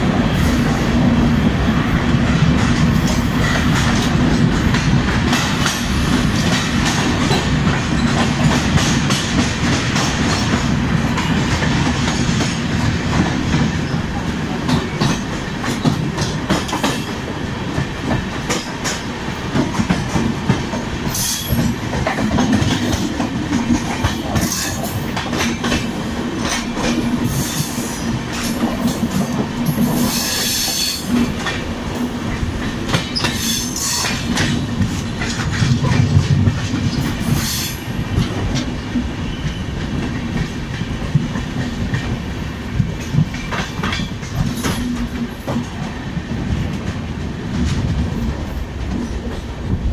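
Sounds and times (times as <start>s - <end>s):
second train passing: 0.0s - 49.9s
train wheels clattering on rails: 0.0s - 49.9s.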